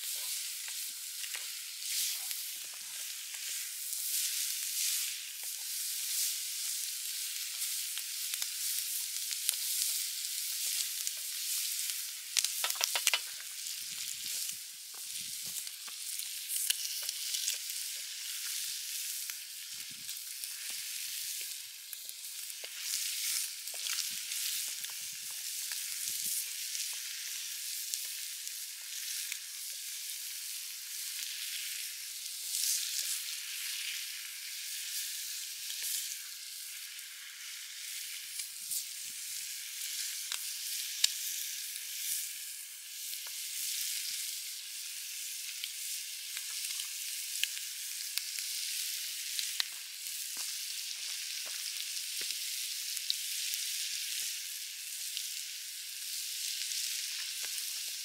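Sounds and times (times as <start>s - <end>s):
bacon sizzling in a skillet: 0.0s - 58.0s.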